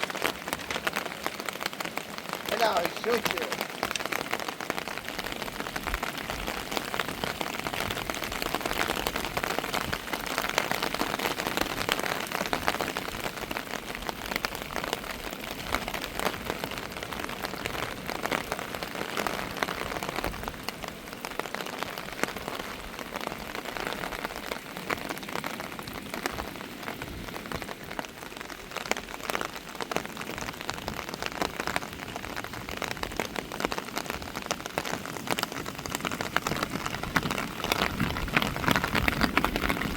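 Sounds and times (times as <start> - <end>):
raindrops ticking on surface: 0.0 - 39.9
steady rain hiss: 0.0 - 39.9.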